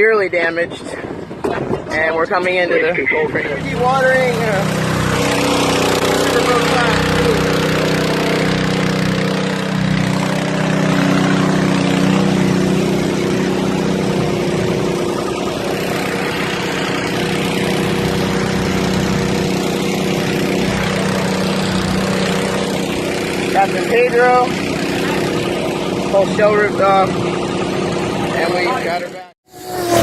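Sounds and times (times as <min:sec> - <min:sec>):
engine droning hum: 0:00.0 - 0:30.0
noise wash: 0:01.0 - 0:30.0.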